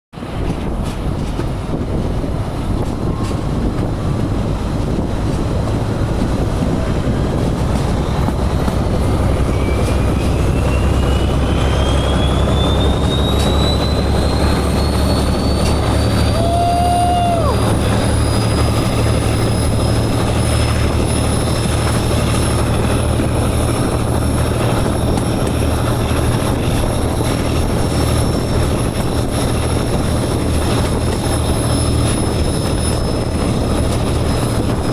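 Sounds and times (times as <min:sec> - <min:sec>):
diesel locomotive rumbling: 0:00.1 - 0:34.9.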